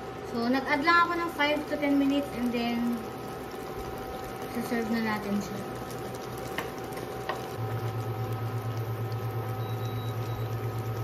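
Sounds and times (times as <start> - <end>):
coconut milk simmering: 0.0 - 11.0
electric cooktop humming: 0.0 - 11.0
faint steady whine: 0.0 - 11.0.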